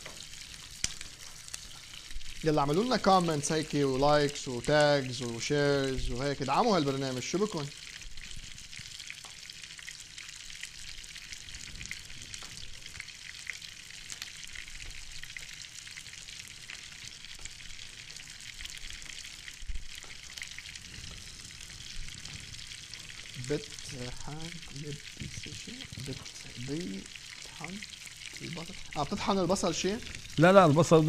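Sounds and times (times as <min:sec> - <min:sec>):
pots sizzling on stovetop: 0:00.0 - 0:31.0.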